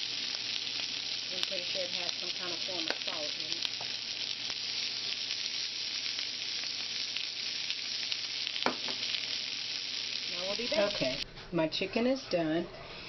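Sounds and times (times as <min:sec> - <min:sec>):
chicken sizzling in a frying pan: 0:00.0 - 0:11.2.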